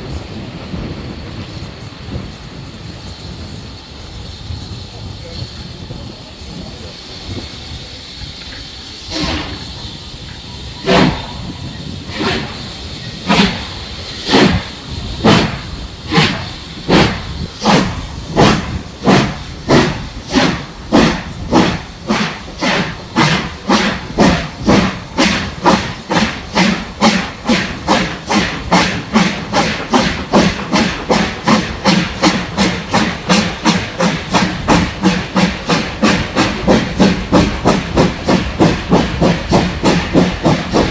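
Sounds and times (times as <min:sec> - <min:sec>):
steam hiss: 0:00.0 - 0:40.9
steam locomotive exhaust chuffs: 0:00.0 - 0:40.9.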